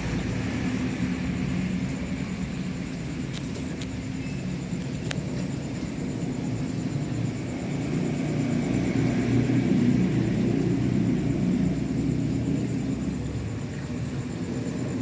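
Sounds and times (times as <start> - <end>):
jet engines rumbling overhead: 0.0 - 15.0.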